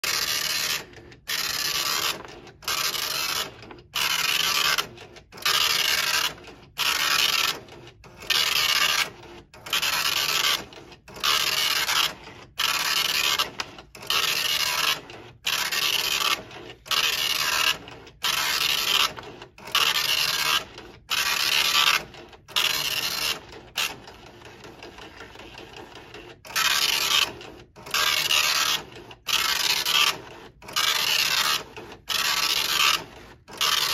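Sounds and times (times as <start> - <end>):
dot matrix printer printing: 0.0 - 33.9.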